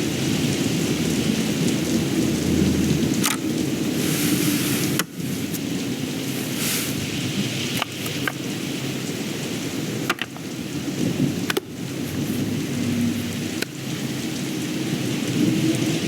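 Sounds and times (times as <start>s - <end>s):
thunder rumbling: 0.0s - 7.8s, 8.5s - 16.0s
steady rain: 0.0s - 16.0s.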